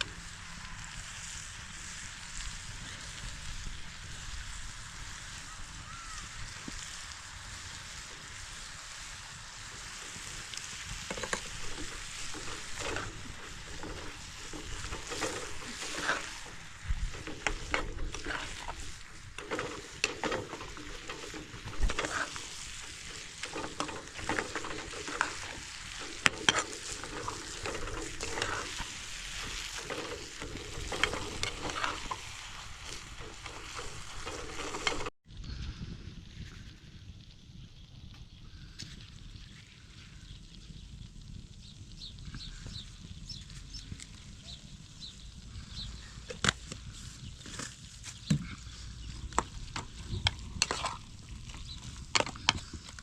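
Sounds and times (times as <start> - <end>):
utensil scraping in a pan: 0.0 - 35.2, 43.4 - 53.0
sizzling hiss: 0.0 - 53.0.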